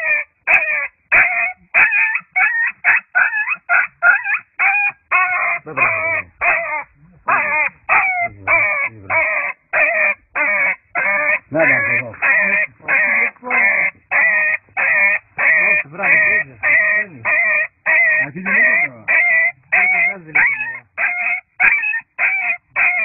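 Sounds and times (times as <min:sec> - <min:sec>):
puppy yelping in pain: 0:00.0 - 0:12.5, 0:13.8 - 0:23.0.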